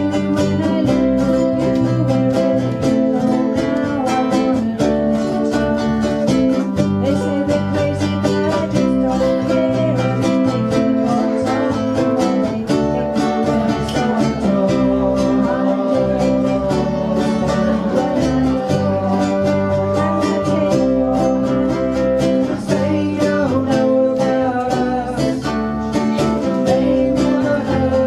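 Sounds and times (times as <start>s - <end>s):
ukuleles strumming chords: 0.0s - 28.0s.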